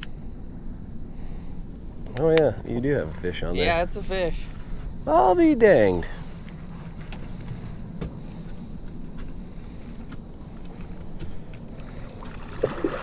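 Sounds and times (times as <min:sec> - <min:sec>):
rumble of moving water: 0:00.0 - 0:13.0.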